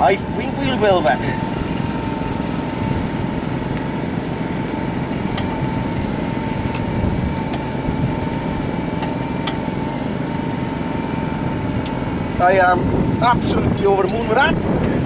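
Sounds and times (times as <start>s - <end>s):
two-stroke dirt bike engine: 0.0s - 15.0s.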